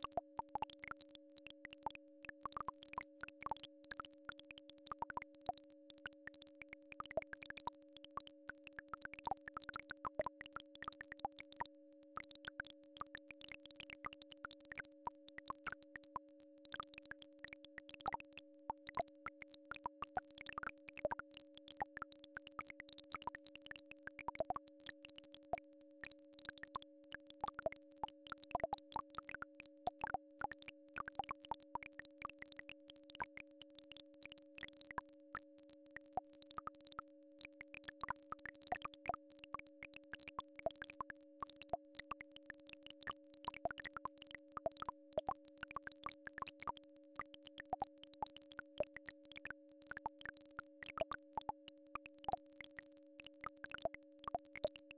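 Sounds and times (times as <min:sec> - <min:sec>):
crackle of soft clicks: 0:00.0 - 0:54.9.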